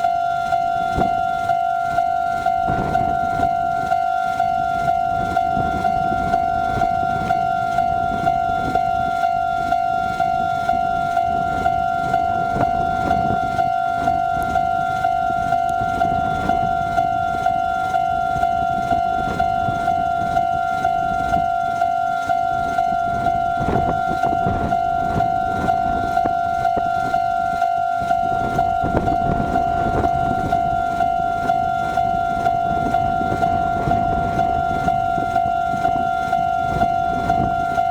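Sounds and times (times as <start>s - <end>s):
level crossing warning bell: 0.0s - 37.9s.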